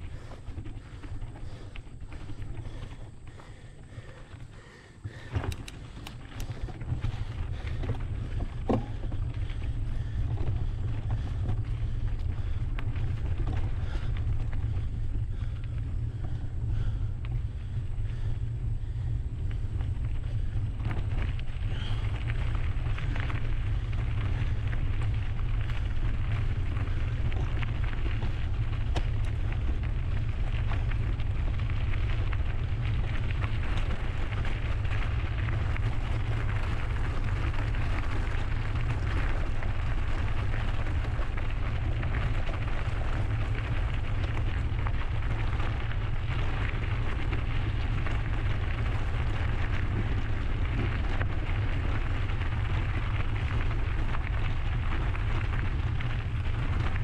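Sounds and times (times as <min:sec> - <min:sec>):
bike tyres rolling on trail: 0:00.0 - 0:57.0
wind rumble on microphone: 0:00.0 - 0:57.0.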